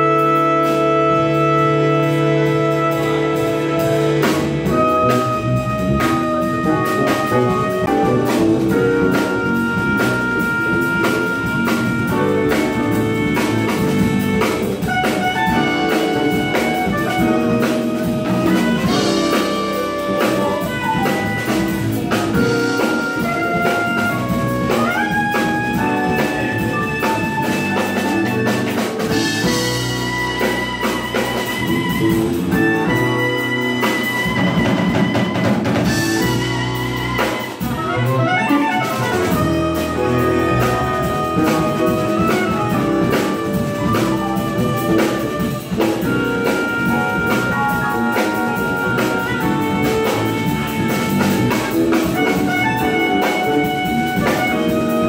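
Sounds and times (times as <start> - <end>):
drum kit with cymbal strokes: 0.0 - 55.0
electric bass: 0.0 - 55.0
keyboard: 0.0 - 55.0
saxophone melody: 0.0 - 55.0.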